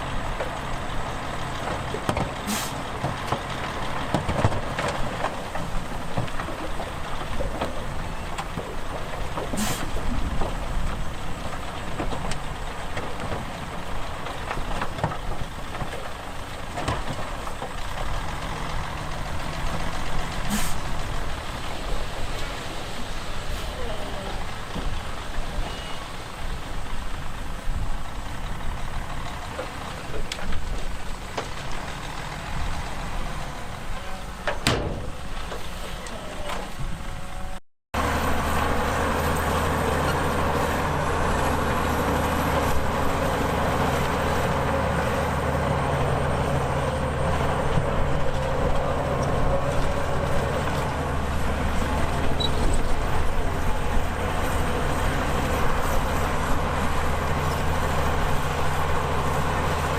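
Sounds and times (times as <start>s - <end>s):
heavy diesel machinery engines: 0.0s - 59.9s.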